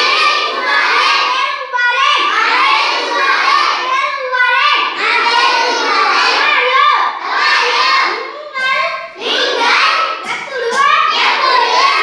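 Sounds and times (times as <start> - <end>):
children chanting together: 0.0 - 12.0.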